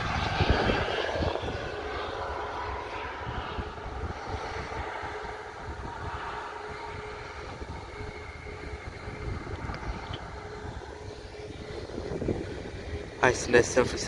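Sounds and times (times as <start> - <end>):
jet engines whining: 0.0 - 14.0
wind rumble on microphone: 0.0 - 14.0.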